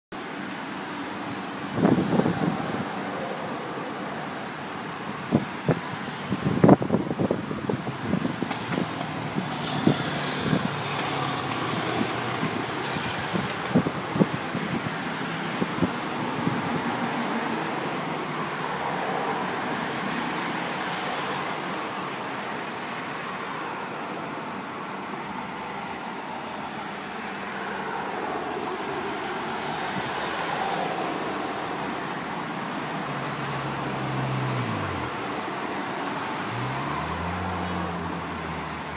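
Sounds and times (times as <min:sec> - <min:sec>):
cars passing on road: 0:00.1 - 0:38.9.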